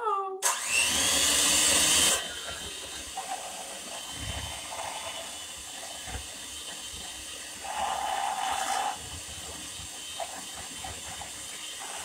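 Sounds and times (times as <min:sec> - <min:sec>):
electric mixer running: 0:00.4 - 0:12.0.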